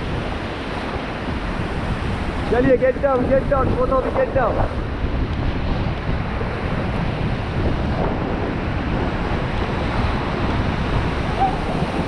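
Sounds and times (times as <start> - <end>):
whitewater rushing: 0.0 - 12.0
wind buffeting microphone: 0.0 - 12.0.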